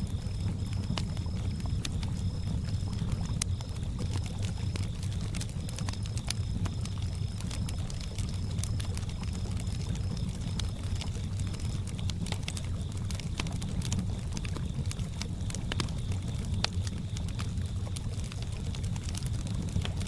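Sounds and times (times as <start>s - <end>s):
campfire crackling and popping: 0.0s - 20.0s
cricket chirping: 0.0s - 20.0s.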